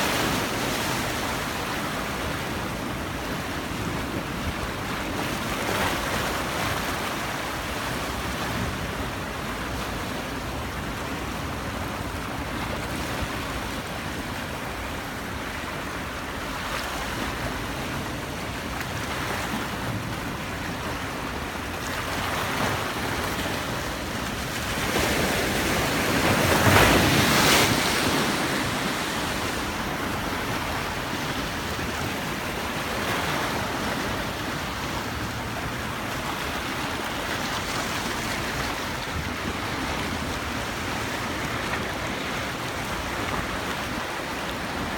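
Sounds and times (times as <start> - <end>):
sea waves washing onto shore: 0.0 - 44.9.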